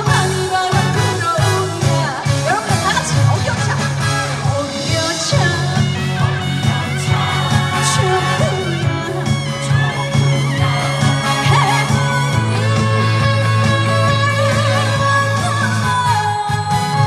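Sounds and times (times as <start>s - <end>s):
trot song over sound system: 0.0s - 17.0s.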